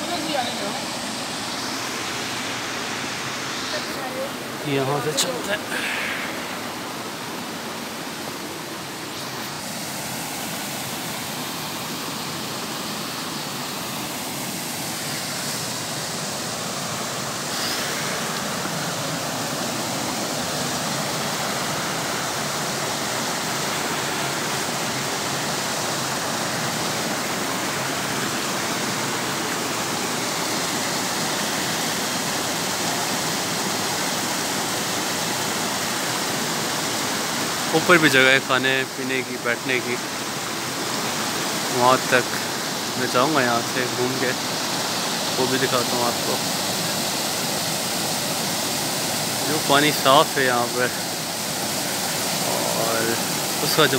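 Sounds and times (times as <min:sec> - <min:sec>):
stream rushing over cascades: 0:00.0 - 0:53.9.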